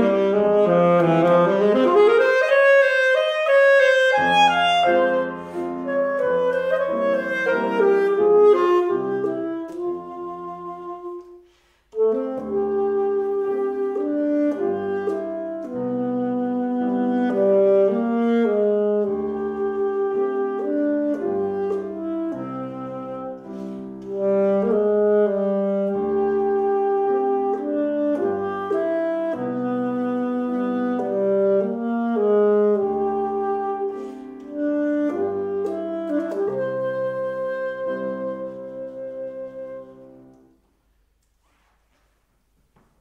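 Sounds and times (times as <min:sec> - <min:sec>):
saxophone melody: 0:00.0 - 0:40.6
grand piano: 0:00.0 - 0:43.0.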